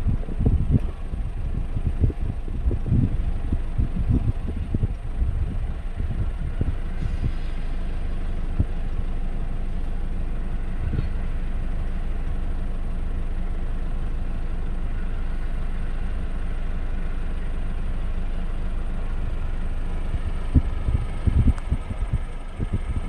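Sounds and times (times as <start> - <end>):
diesel locomotive engine rumble: 0.0 - 23.0.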